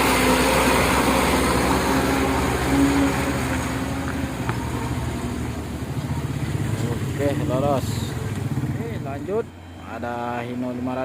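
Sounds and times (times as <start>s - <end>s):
heavy truck driving past: 0.0s - 11.0s.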